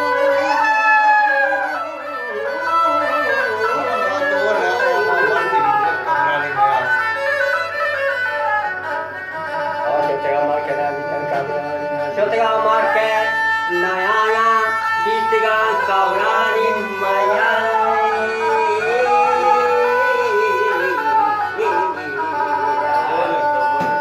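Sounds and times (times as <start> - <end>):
bowed fiddle melody: 0.0 - 24.0
lute drone: 0.0 - 24.0.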